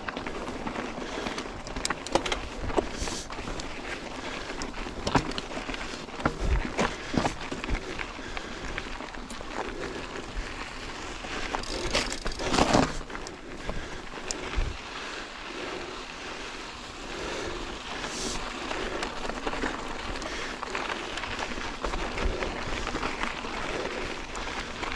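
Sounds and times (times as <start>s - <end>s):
bike clicks and rattles: 0.0s - 24.9s
bike tyres crunching on dirt: 0.0s - 24.9s.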